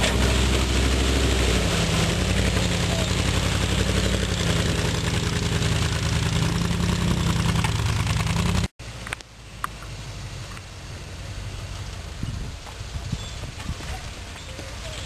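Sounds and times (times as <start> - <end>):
loud car engine in mud: 0.0 - 15.0.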